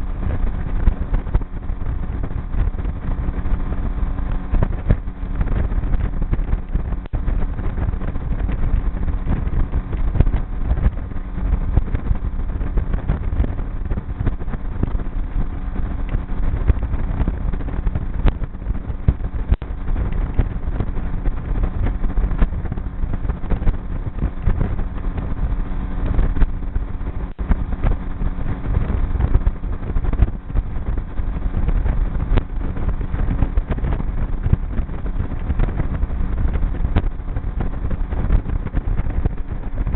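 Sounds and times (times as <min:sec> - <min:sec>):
boat motor running: 0:00.0 - 0:39.9
water rushing past hull: 0:00.0 - 0:39.9
wind buffeting microphone: 0:00.0 - 0:39.9.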